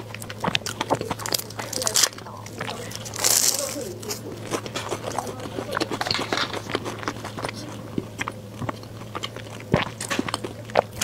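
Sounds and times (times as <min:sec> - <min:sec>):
chewing mouth clicks and smacks: 0:00.0 - 0:11.0.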